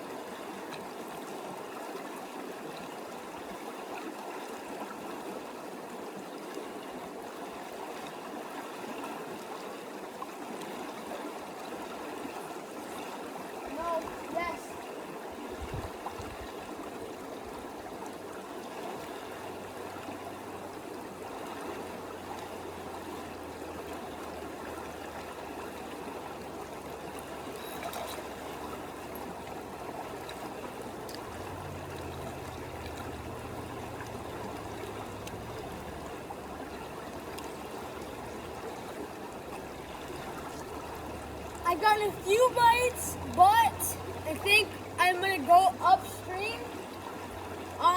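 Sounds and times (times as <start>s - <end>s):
creek water trickling: 0.0s - 47.9s.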